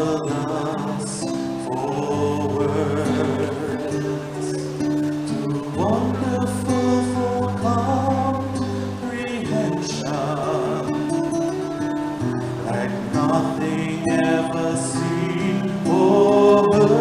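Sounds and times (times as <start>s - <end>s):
guitar: 0.0s - 17.0s
instrumental accompaniment: 0.0s - 17.0s
people singing worship music: 0.0s - 17.0s.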